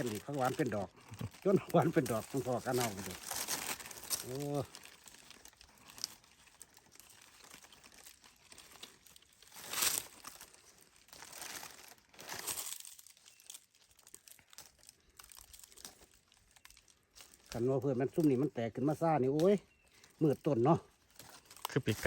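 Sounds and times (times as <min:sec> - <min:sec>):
dry leaves rustling underfoot: 0:00.0 - 0:22.0
loud leaf crunch: 0:00.0 - 0:22.0.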